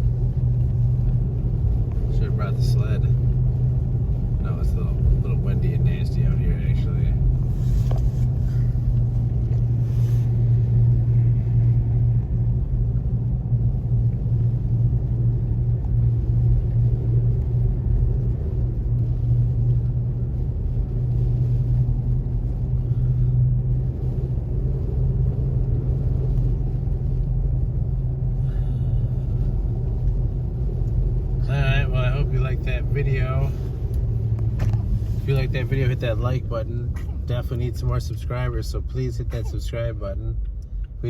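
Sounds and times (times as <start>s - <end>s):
pickup engine and road rumble: 0.0s - 41.0s.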